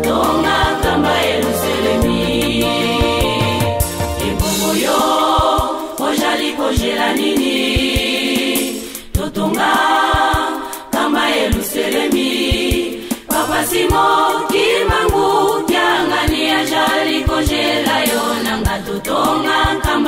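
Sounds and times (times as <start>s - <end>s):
group singing a hymn: 0.0s - 20.0s.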